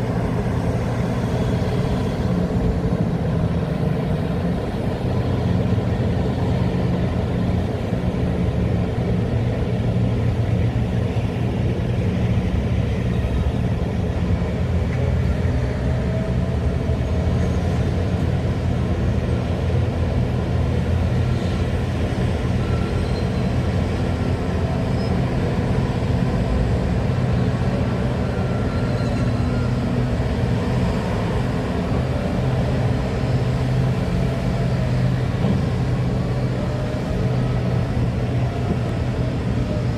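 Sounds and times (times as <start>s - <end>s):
heavy diesel engines humming: 0.0s - 39.9s.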